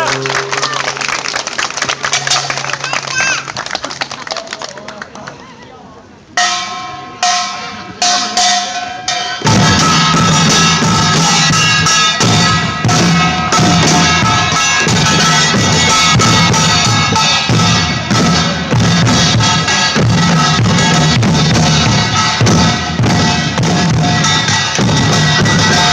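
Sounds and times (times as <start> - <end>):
percussion group fast rhythm: 0.0 - 5.4, 6.4 - 25.9.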